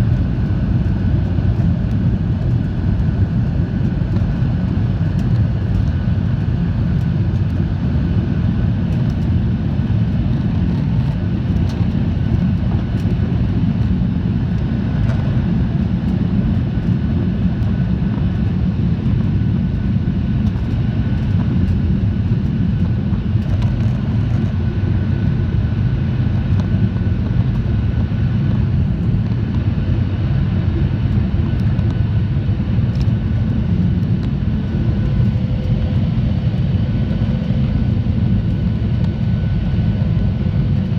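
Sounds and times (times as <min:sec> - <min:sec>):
jet engine roar: 0:00.0 - 0:40.9.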